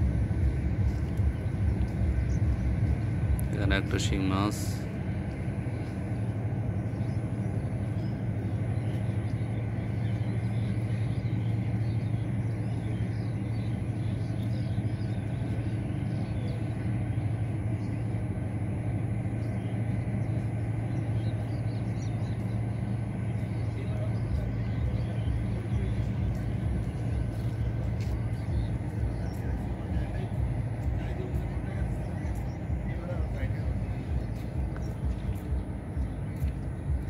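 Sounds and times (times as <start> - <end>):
engine droning steadily: 0.0 - 37.0.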